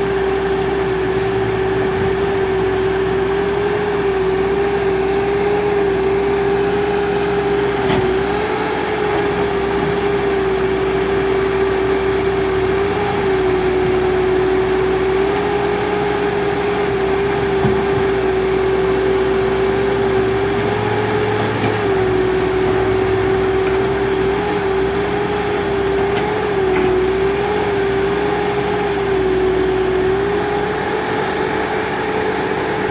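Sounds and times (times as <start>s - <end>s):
diesel engine whining: 0.0s - 32.9s.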